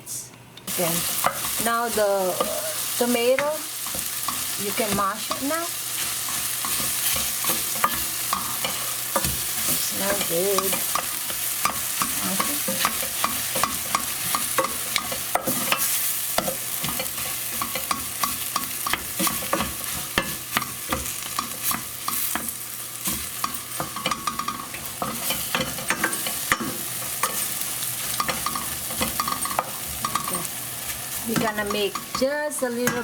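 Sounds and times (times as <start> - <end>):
food sizzling in frying pan: 0.7 - 33.0
utensil scraping and tapping pan: 3.3 - 33.0.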